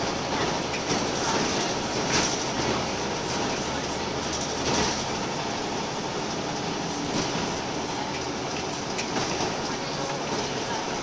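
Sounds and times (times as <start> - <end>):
bus body rattles: 0.0 - 11.0
bus engine and road noise: 0.0 - 11.0.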